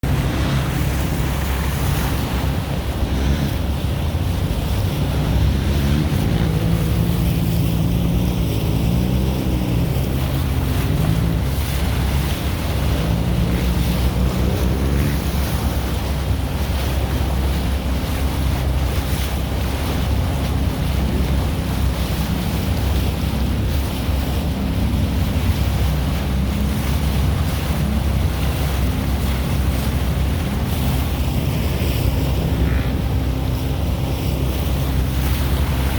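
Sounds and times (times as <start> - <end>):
vehicle engine: 0.0 - 35.9
wind rumbling on microphone: 0.0 - 35.9.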